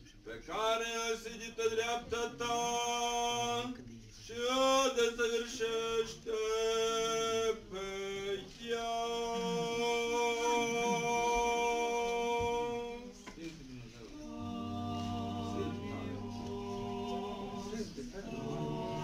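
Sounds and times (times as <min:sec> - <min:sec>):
man singing a chant: 0:00.3 - 0:13.2, 0:14.3 - 0:19.0.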